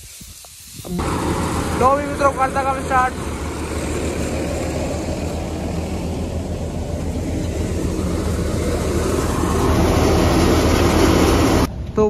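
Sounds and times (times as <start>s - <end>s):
tractor engine hum: 0.6s - 12.0s
thresher mechanical rushing noise: 0.9s - 11.7s.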